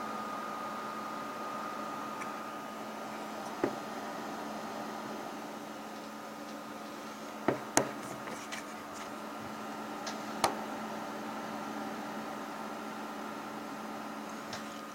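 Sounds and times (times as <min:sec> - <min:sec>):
steady hum: 0:00.0 - 0:14.9.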